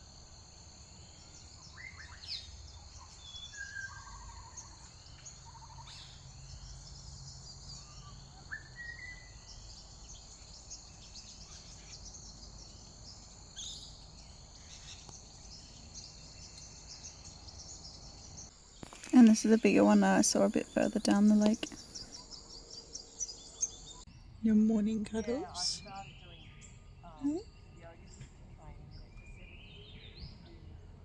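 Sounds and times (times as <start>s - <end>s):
wild birds calling: 0.9s - 28.3s.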